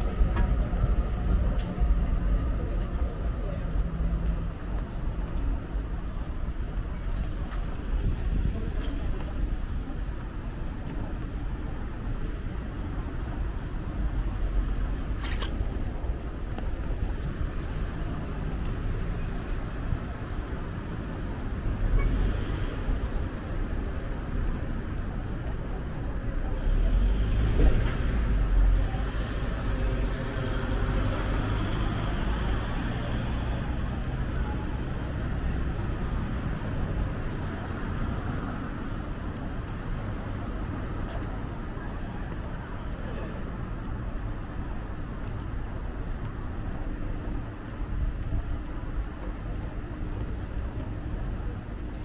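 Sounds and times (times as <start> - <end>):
traffic rumble: 0.0 - 52.0
vehicles passing: 0.0 - 52.0.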